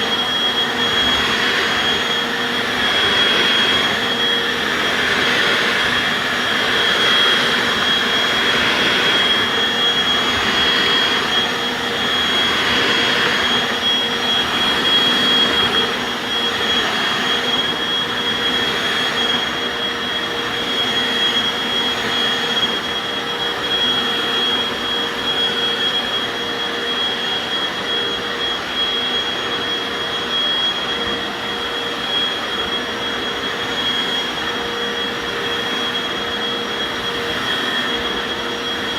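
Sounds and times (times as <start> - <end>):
carpet washer motor whine: 0.0 - 38.9
suction noise: 0.0 - 38.9.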